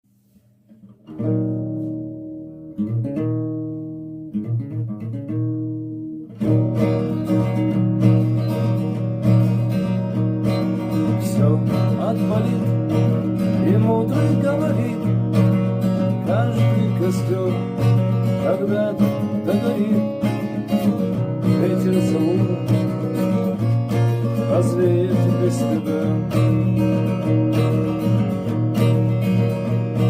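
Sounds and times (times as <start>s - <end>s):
acoustic guitar strumming: 0.2s - 30.0s.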